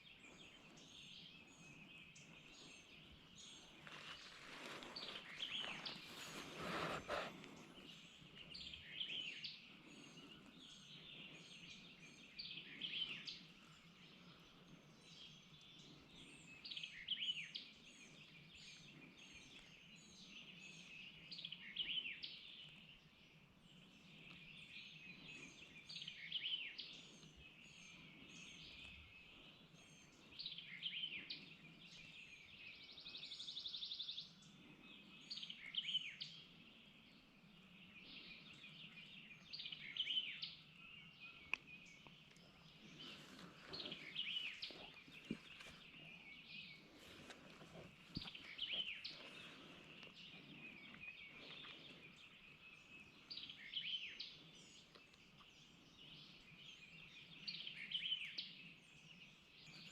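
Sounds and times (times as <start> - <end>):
faint songbirds singing: 0.0 - 59.9.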